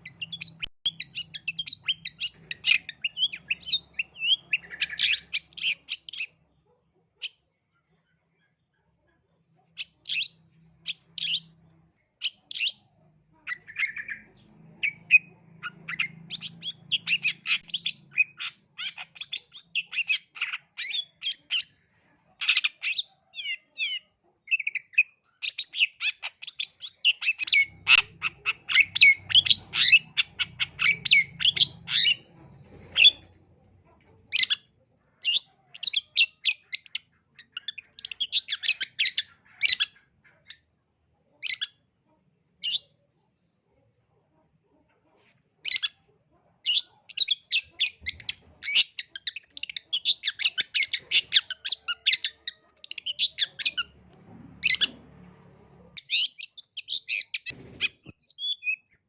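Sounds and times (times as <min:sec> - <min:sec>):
bird chattering song: 0:00.0 - 0:06.5, 0:07.1 - 0:42.0, 0:42.6 - 0:43.1, 0:45.6 - 0:55.1, 0:55.7 - 0:59.0.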